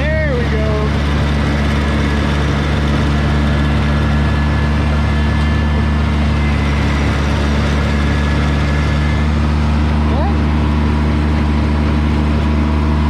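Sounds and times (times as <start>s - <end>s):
tiller working soil: 0.0s - 13.0s
tractor diesel engine running: 0.0s - 13.0s.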